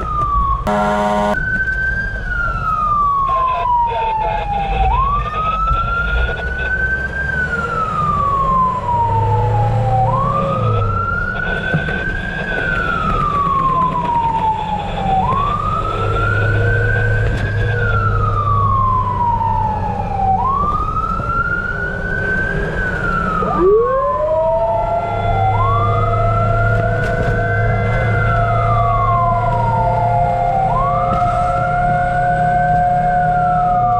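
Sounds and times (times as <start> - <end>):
second siren steady tone: 0.0 - 6.8, 7.4 - 33.9
fire truck siren wailing: 0.0 - 33.9
truck engine rumble: 0.0 - 33.9.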